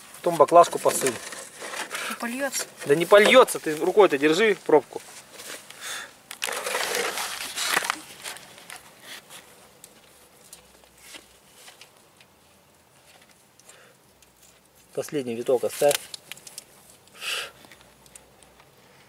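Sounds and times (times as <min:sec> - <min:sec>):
crinkling rustle: 0:00.0 - 0:19.0.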